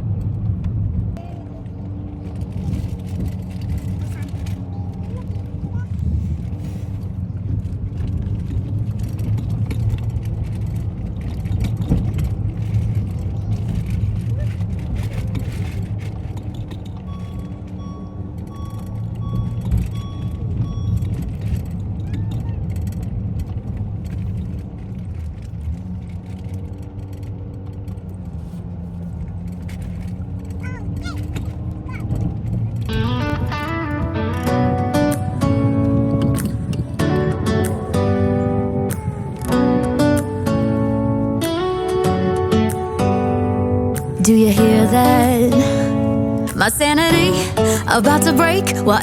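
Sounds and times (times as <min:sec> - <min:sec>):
car engine and tyre rumble: 0:00.0 - 0:44.3.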